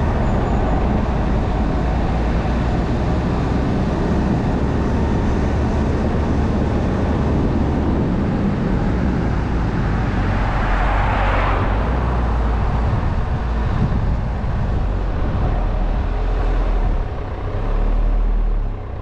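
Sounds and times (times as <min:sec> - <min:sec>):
car road noise and hum: 0:00.0 - 0:19.0.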